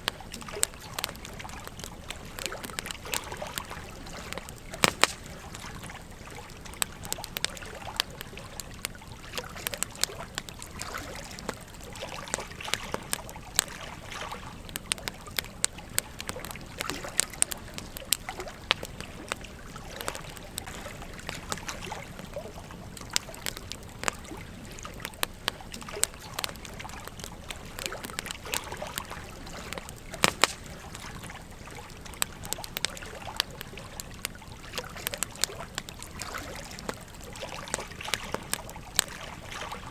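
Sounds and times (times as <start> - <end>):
campfire crackling and popping: 0.0 - 39.9
gentle stream trickling: 0.0 - 39.9.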